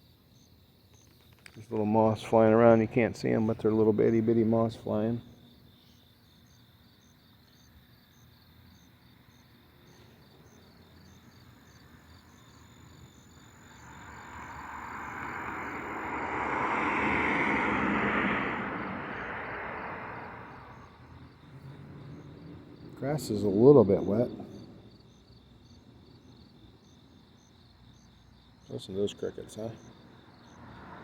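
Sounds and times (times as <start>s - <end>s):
crickets chirping: 0.0s - 31.0s
car passing on road: 1.5s - 5.4s, 8.7s - 26.7s, 27.8s - 31.0s.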